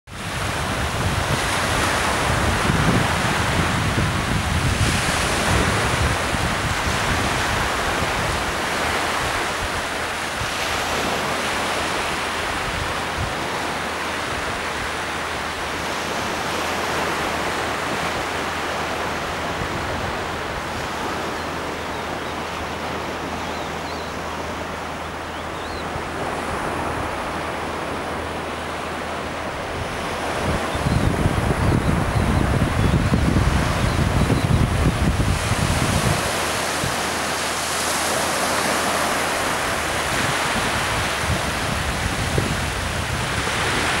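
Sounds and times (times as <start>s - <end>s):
small waves washing onto shore: 0.1s - 44.0s
wind buffeting microphone: 0.1s - 44.0s.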